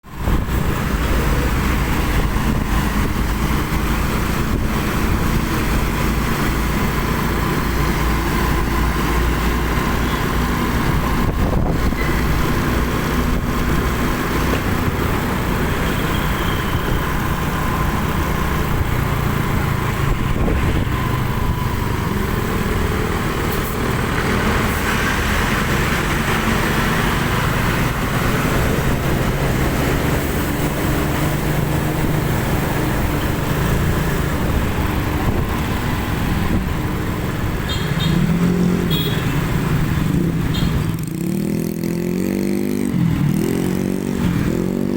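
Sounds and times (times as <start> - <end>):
tyre and road noise: 0.0 - 44.9.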